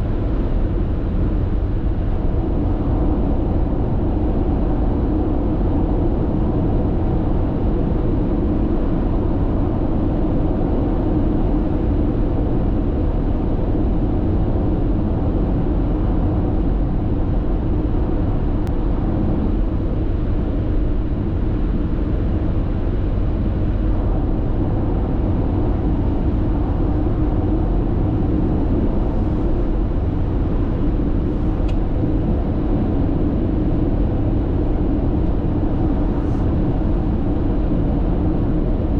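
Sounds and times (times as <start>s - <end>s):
road and tyre noise in car: 0.0s - 38.9s.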